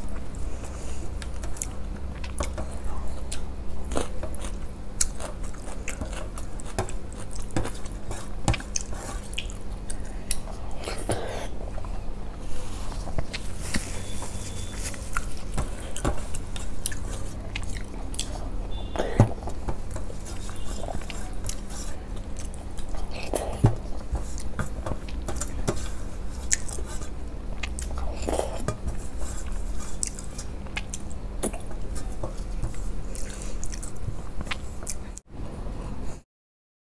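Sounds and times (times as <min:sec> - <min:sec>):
person chewing and smacking food: 0:00.0 - 0:35.2.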